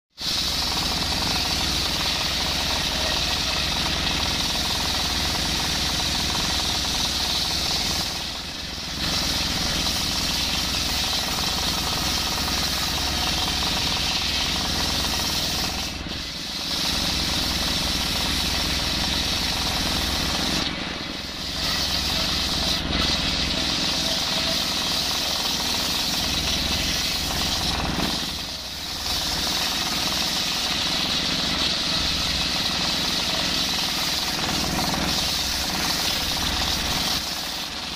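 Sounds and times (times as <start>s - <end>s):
diesel engine running: 0.2s - 37.9s.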